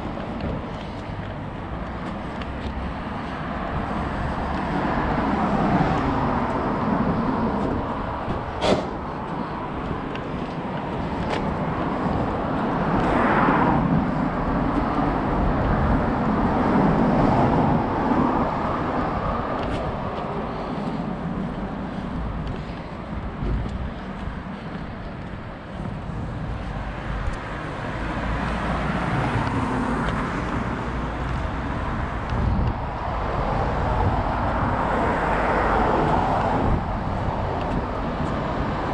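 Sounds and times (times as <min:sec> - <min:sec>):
cars passing: 0:00.0 - 0:38.9.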